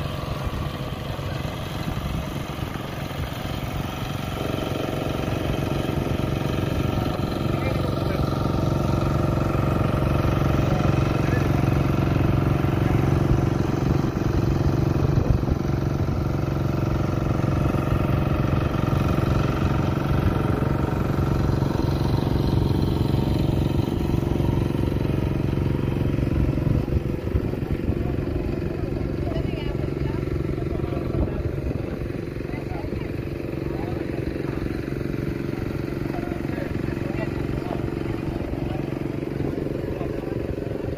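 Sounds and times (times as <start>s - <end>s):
motor humming steadily: 0.0s - 40.9s.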